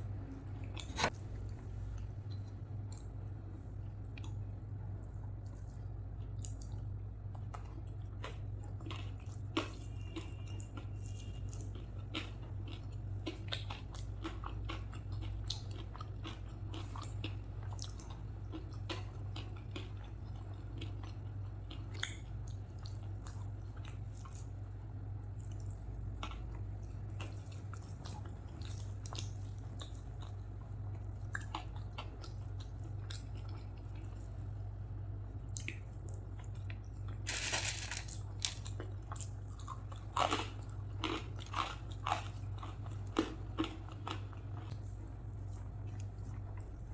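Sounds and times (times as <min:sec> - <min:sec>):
steady low hum: 0:00.0 - 0:46.9
chewing and crunching: 0:03.9 - 0:34.5, 0:35.5 - 0:46.9.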